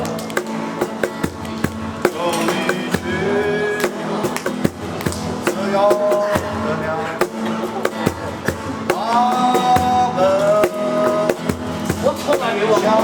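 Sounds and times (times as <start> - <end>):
drum kit beat: 0.0 - 13.0
guitar chords: 0.0 - 13.0.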